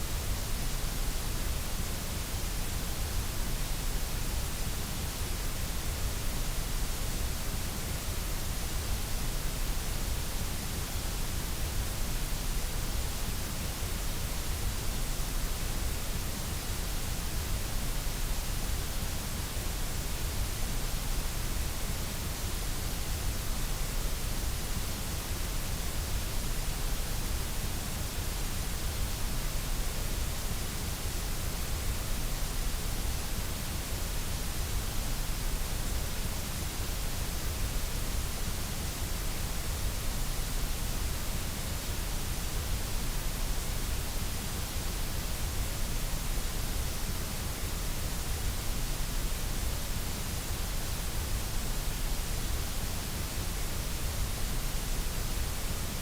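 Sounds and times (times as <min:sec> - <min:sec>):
steady white noise hiss: 0:00.0 - 0:56.0.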